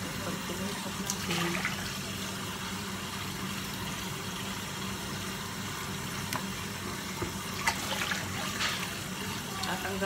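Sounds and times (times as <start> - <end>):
appliance hum and hiss: 0.0 - 10.0.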